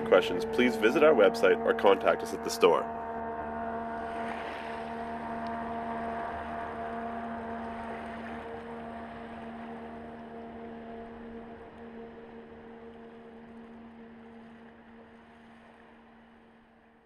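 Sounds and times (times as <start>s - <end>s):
outboard engine drone: 0.0s - 17.0s.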